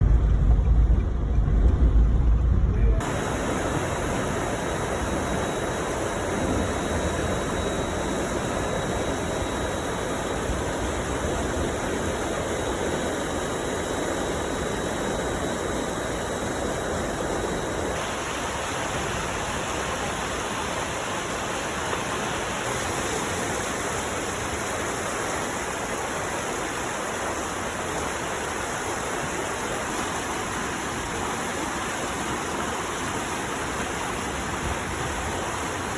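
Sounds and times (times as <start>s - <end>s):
storm runoff rushing: 0.0s - 35.9s.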